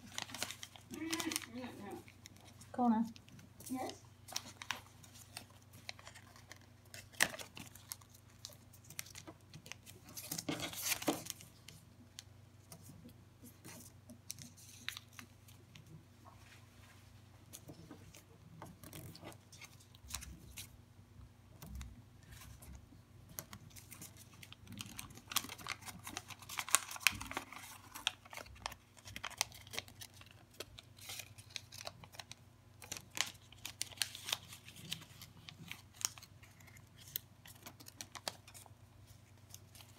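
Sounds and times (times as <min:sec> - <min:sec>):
paper rustling while folded: 0:00.0 - 0:11.8, 0:12.7 - 0:15.6, 0:22.2 - 0:39.9.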